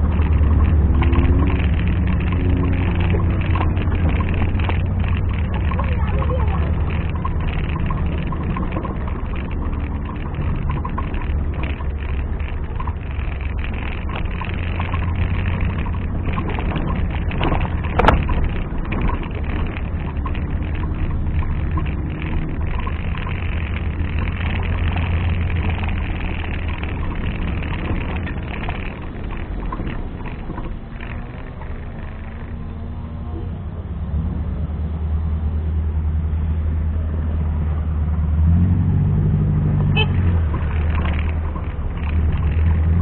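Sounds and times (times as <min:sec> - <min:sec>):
off-road vehicle engine running: 0:00.0 - 0:43.0.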